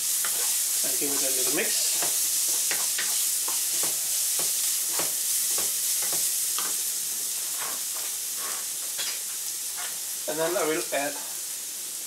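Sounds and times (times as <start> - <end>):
vegetables sizzling in oil: 0.0 - 12.0
wooden spatula scraping pan: 0.2 - 10.0.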